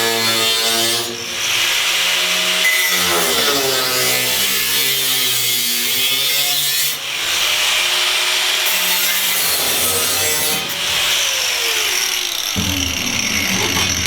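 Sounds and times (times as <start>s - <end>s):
power tool cutting steel: 0.0s - 14.0s.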